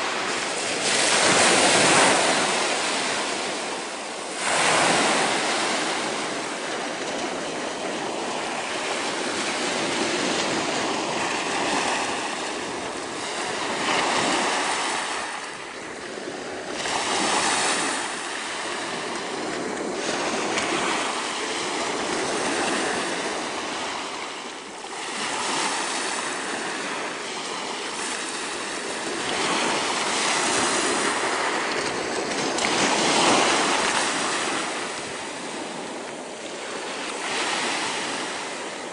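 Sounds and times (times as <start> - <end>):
waves washing over shingle beach: 0.0 - 38.9.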